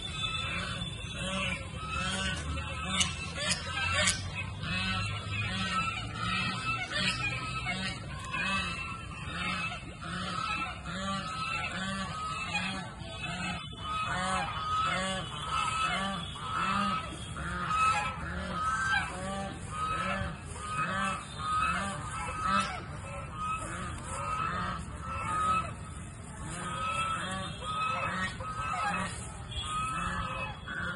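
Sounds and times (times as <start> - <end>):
geese honking: 0.0 - 30.9.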